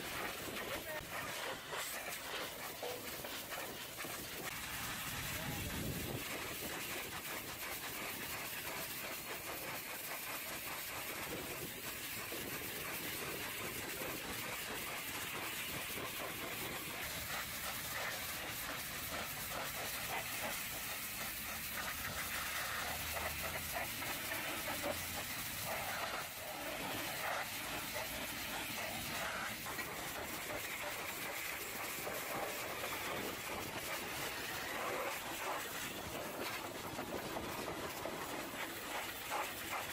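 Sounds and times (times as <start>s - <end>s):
pressure washer spraying metal: 0.0s - 39.9s.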